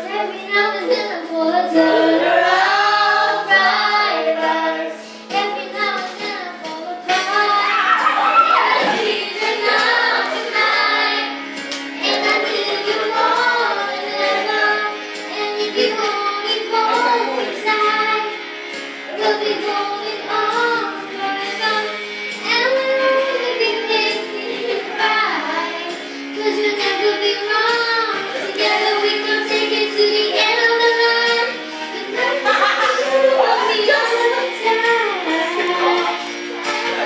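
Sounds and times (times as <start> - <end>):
instrumental backing music: 0.0 - 37.0
person singing: 0.0 - 37.0.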